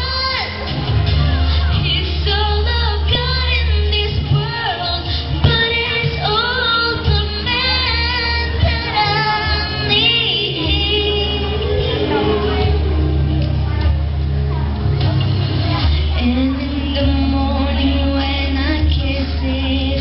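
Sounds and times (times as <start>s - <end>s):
amplified musical accompaniment: 0.0s - 20.0s
girl singing into microphone: 0.0s - 20.0s.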